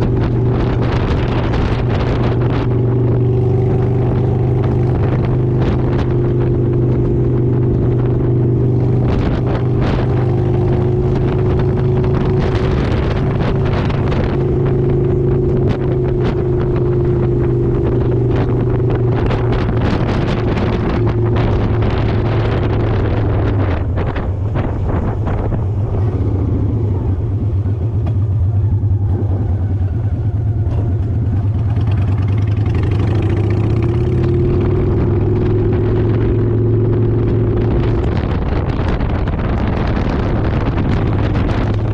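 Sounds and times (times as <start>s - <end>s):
motorcycle engine running: 0.0s - 41.9s
wind gusting on microphone: 0.0s - 41.9s.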